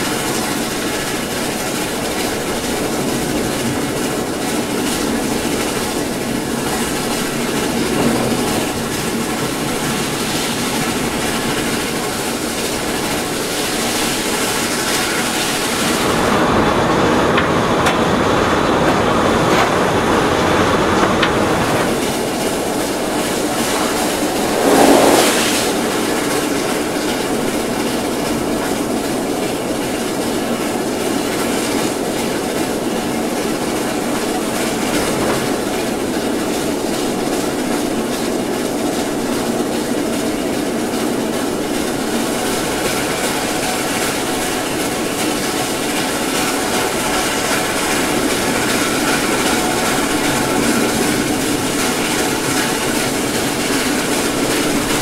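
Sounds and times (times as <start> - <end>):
steam locomotive wheels rumbling: 0.0 - 55.0.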